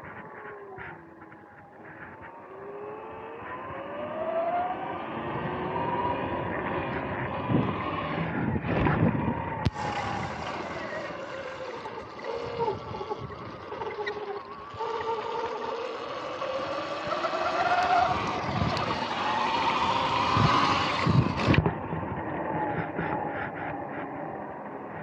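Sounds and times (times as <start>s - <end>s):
electric motor whining: 0.0s - 24.8s
wind: 0.0s - 25.0s.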